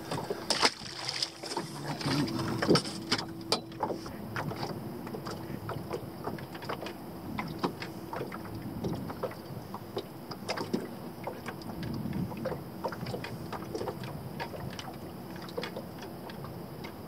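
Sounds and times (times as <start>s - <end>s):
faint steady hum: 0.0s - 17.0s
knocks and taps in boat: 0.0s - 17.0s.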